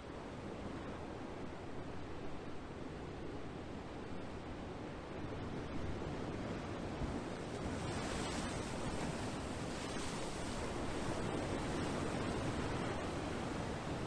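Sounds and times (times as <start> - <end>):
ocean waves washing ashore: 0.1 - 14.0.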